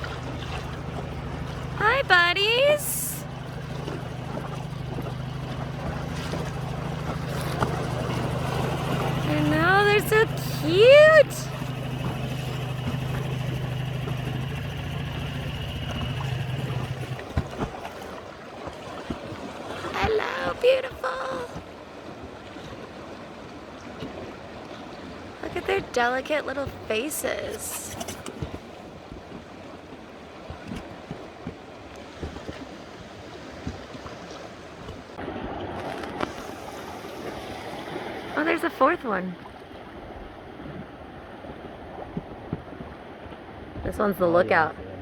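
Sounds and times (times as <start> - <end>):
outboard motor idling: 0.0 - 45.0
sea water lapping at shore: 0.0 - 45.0.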